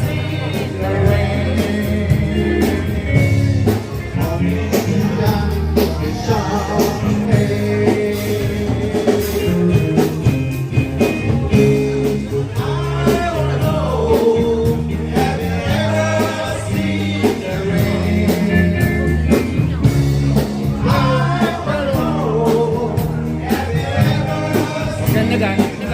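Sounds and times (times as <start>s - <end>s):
lead singer singing: 0.0s - 10.1s, 11.5s - 25.9s
rock band playing: 0.0s - 25.9s
steady drum beat: 0.0s - 25.9s.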